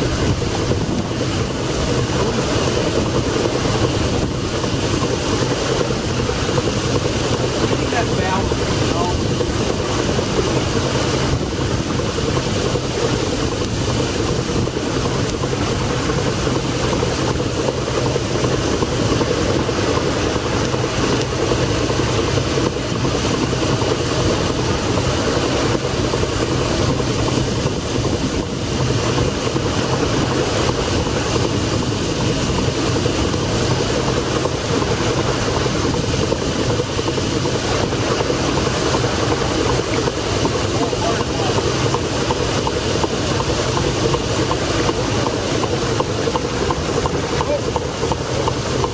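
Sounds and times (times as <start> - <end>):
steam engine chugging: 0.0 - 48.9.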